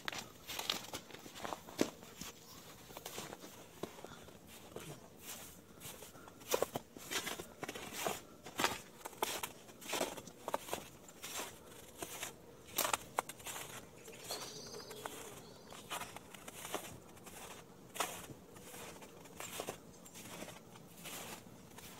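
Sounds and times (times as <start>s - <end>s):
footsteps in snow: 0.0s - 21.9s.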